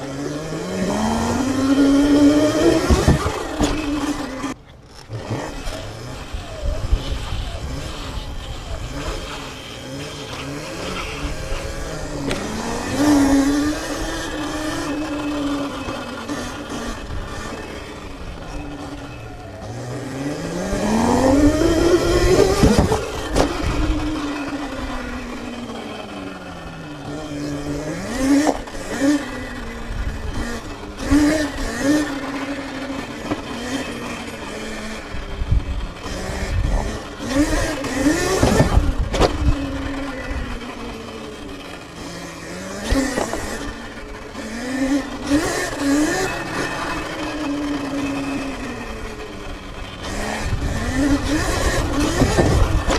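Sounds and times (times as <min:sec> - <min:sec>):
electric motor whining: 0:00.0 - 0:52.9.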